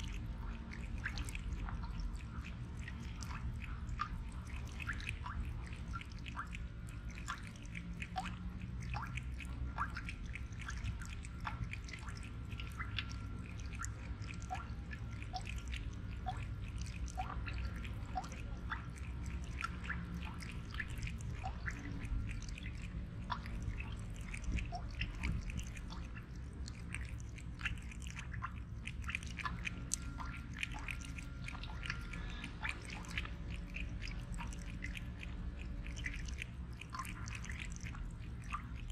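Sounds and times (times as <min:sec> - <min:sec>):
cat lapping water: 0:00.0 - 0:38.9
low steady rumble: 0:00.0 - 0:38.9.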